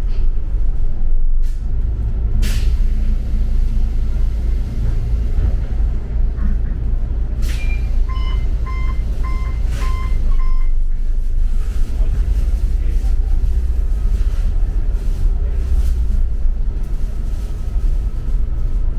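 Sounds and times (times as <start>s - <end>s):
bus engine and road rumble: 0.0s - 18.9s.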